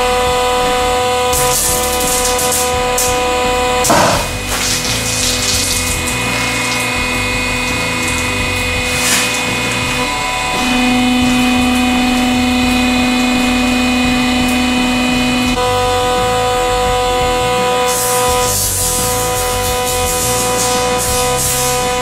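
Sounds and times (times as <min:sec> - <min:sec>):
hydraulic pump motor humming: 0:00.0 - 0:22.0.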